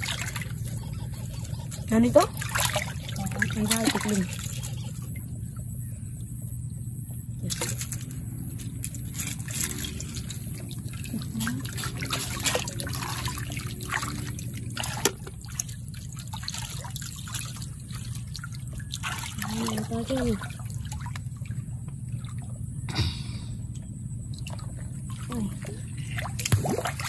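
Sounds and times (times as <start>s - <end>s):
shallow water splashing: 0.0s - 22.9s, 24.0s - 27.0s.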